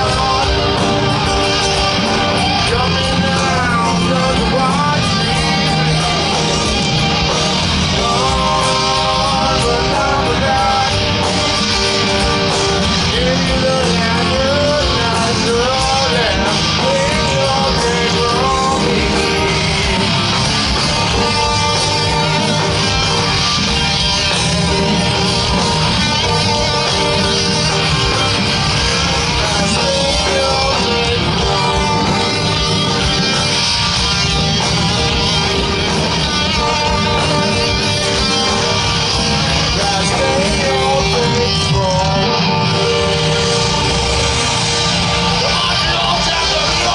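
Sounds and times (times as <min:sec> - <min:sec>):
live rock band playing: 0:00.0 - 0:46.9
person singing: 0:00.0 - 0:46.9.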